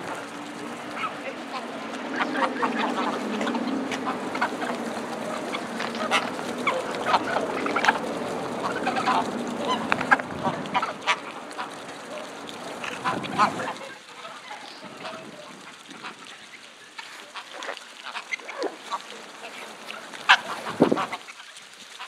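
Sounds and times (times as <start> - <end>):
geese honking and cackling: 0.0 - 22.0.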